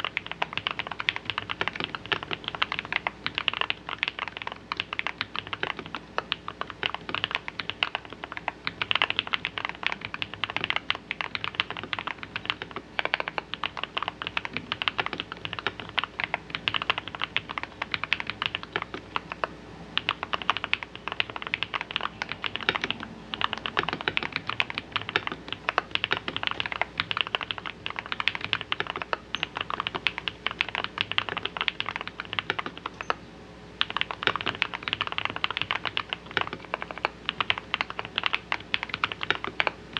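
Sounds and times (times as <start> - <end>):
fast typing on mechanical keyboard: 0.0 - 33.2, 33.8 - 39.8.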